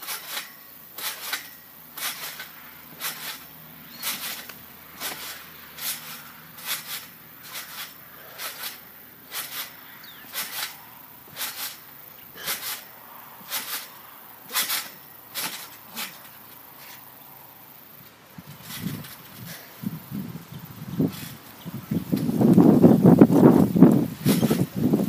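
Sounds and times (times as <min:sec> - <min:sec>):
trampoline creaking: 0:00.0 - 0:25.0.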